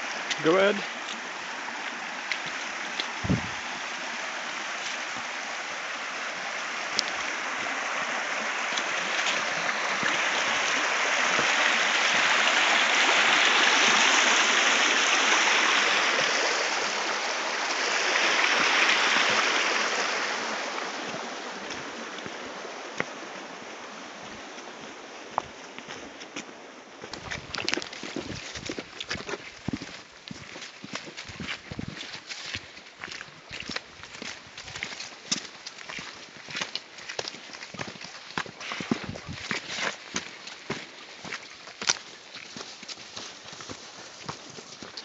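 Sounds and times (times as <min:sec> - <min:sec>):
stream rushing over rocks: 0:00.0 - 0:45.0.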